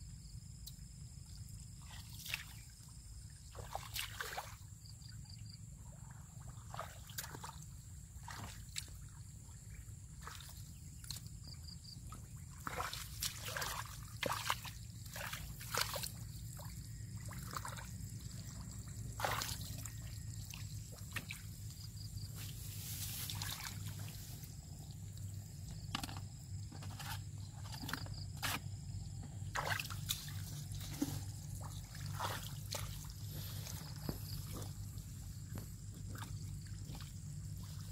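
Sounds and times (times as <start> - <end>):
muddy water sloshing: 1.4 - 37.9.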